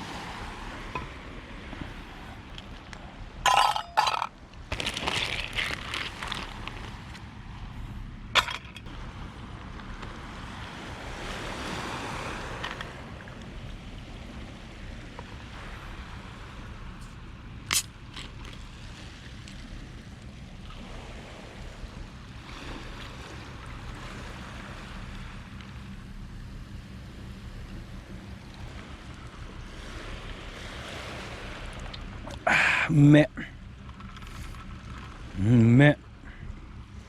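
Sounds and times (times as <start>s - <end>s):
small waves washing onto beach: 0.0s - 37.0s.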